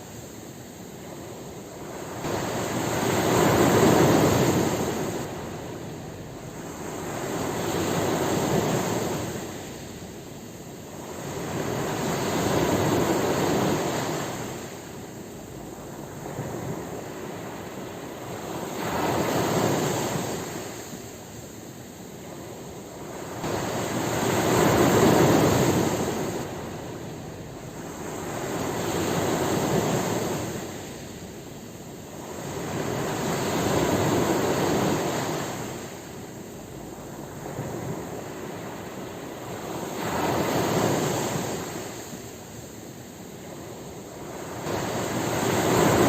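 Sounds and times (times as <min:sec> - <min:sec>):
ocean waves breaking on shore: 0:00.0 - 0:46.0.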